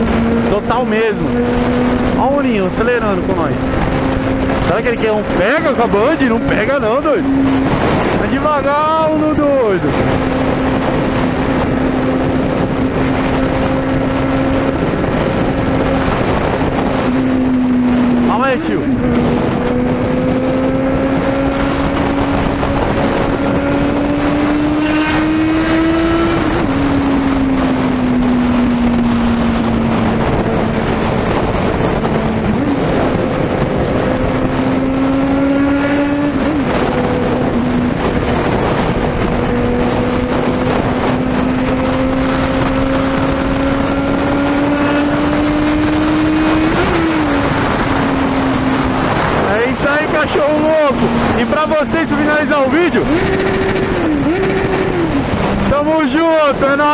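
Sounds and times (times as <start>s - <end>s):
motorcycle engine revving: 0.0s - 56.9s
wind and road noise: 0.0s - 56.9s.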